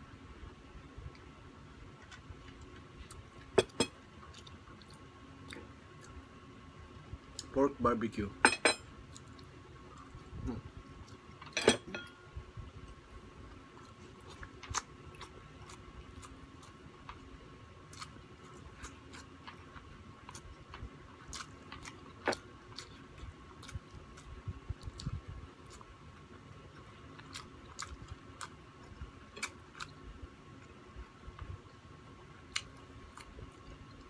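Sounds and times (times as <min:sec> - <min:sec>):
faint steady hum: 0:00.0 - 0:34.0
man chewing food: 0:00.7 - 0:07.5, 0:08.8 - 0:11.6, 0:12.6 - 0:34.0.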